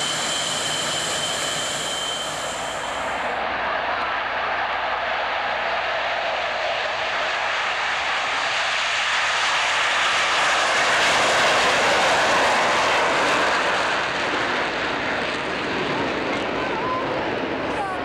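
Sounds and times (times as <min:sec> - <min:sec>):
jet roar: 0:00.0 - 0:18.0.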